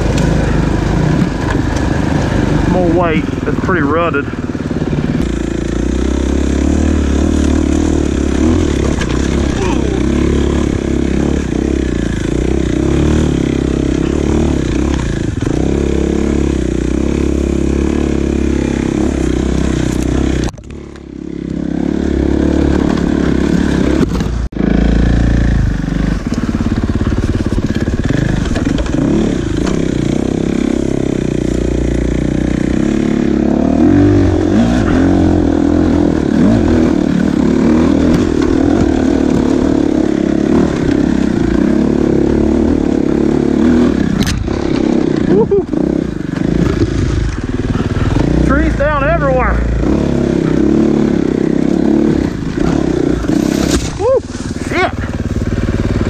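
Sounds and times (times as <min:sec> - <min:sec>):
dirt bike engine under load: 0:00.0 - 0:21.4, 0:22.0 - 0:56.0.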